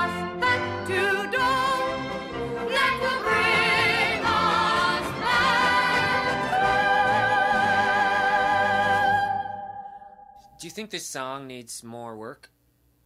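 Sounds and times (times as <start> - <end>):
operatic singing: 0.0 - 10.6.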